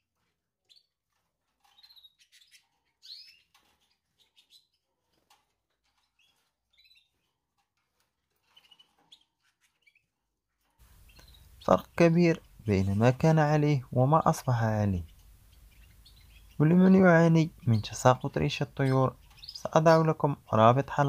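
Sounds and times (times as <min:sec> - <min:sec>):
canary chirps: 0:00.0 - 0:21.0.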